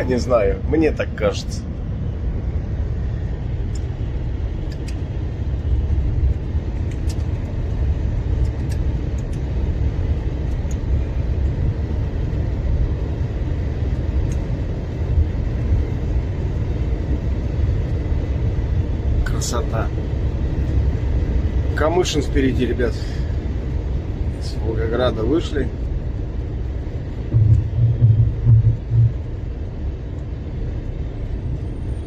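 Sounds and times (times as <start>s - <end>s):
truck engine and road drone: 0.0s - 32.0s.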